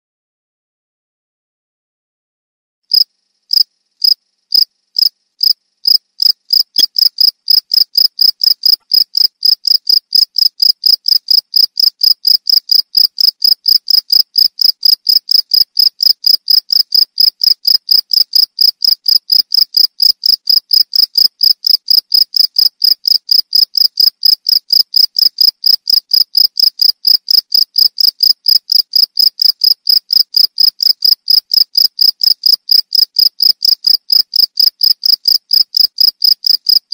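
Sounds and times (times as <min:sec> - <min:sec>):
cricket chirping: 0:02.9 - 0:36.9.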